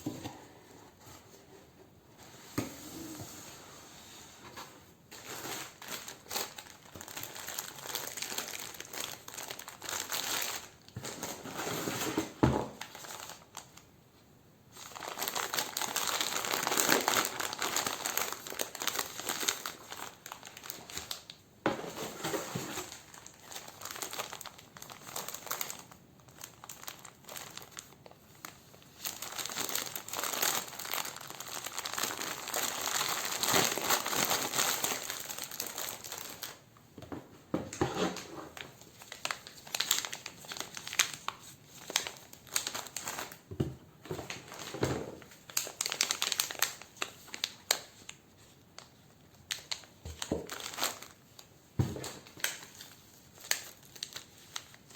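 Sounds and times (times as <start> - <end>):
packaging crinkling and rustling: 4.5 - 13.9, 14.7 - 54.9.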